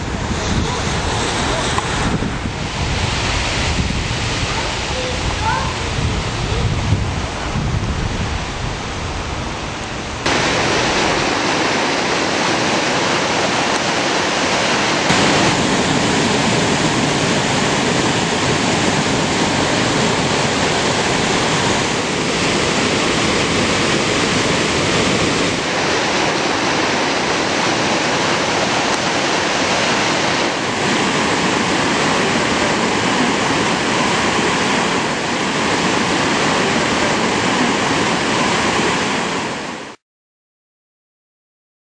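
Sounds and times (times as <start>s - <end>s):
rushing water roaring over weir: 0.0s - 40.0s.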